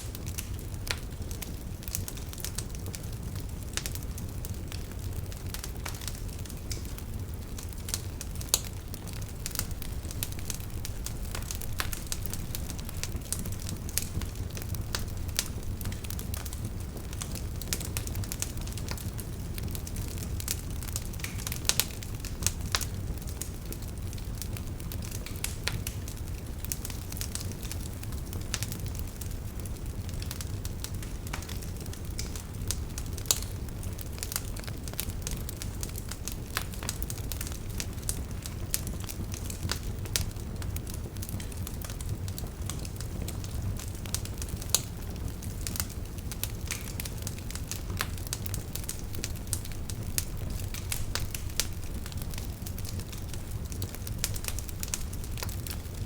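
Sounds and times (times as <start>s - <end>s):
burning wood crackling and popping: 0.0s - 56.0s
campfire flames rumbling: 0.0s - 56.0s.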